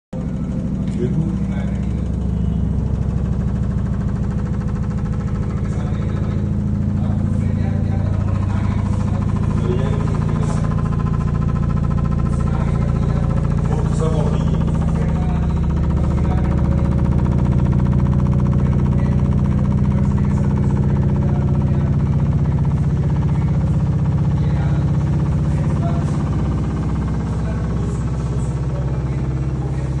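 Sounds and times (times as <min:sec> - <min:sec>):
washing machine running: 0:00.2 - 0:30.0.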